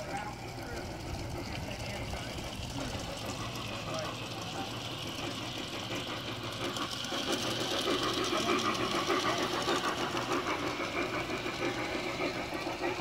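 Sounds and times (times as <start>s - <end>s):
model train rattling along track: 0.0s - 13.0s.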